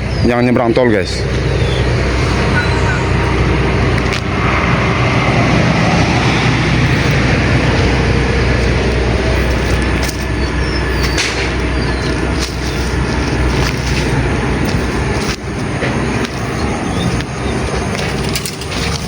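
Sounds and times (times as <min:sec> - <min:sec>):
low rumble of engines and traffic: 0:00.0 - 0:19.0.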